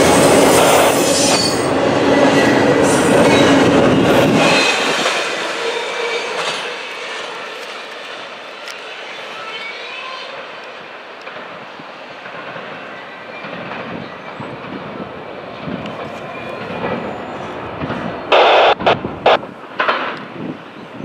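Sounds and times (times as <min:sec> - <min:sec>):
train cars clickety-clack: 0:00.0 - 0:20.5
freight train wheels rumbling: 0:00.0 - 0:21.0.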